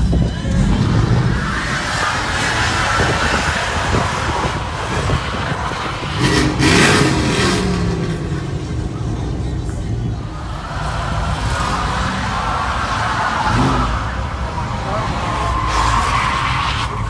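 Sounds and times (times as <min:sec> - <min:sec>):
truck engine revving: 0:00.0 - 0:17.0
tyres spinning in burnout: 0:00.1 - 0:17.0.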